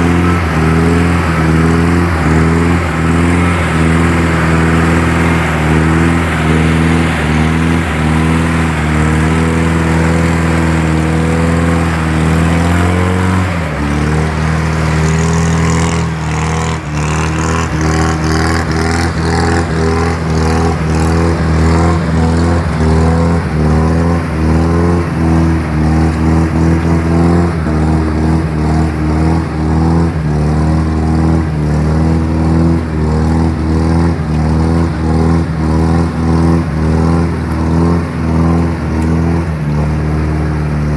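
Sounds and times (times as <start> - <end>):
truck engine running under load: 0.0 - 40.9.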